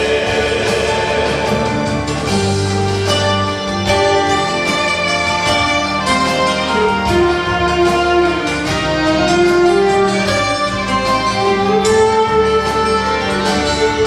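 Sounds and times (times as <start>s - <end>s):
violin melody over sustained strings: 2.3s - 14.0s.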